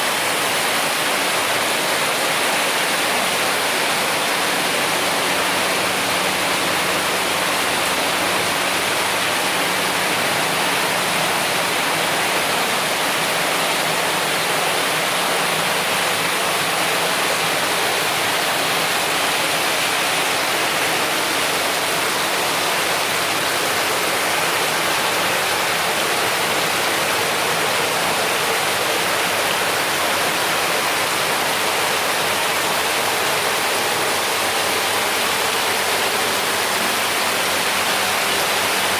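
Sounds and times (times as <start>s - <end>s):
water pouring over waterfall: 0.0s - 38.9s.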